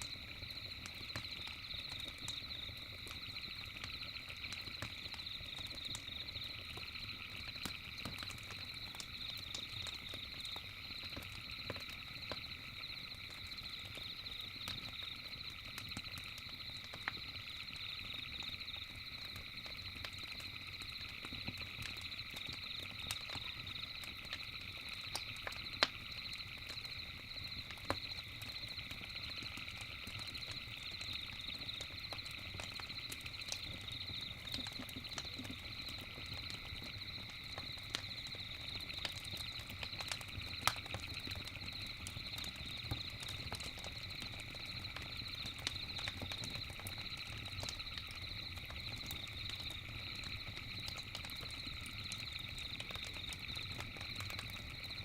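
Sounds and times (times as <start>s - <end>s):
campfire crackling and popping: 0.0s - 55.0s
insects or frogs calling: 0.0s - 55.0s.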